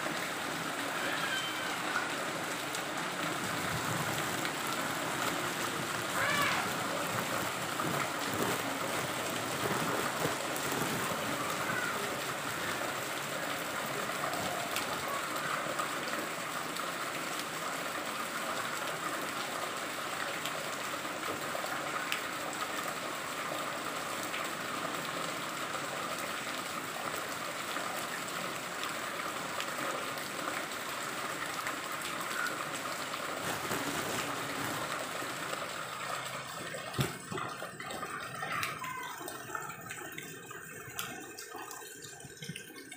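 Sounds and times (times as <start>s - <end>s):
rain splashing into standing water: 0.0s - 42.9s
water trickling down a wall: 0.0s - 42.9s.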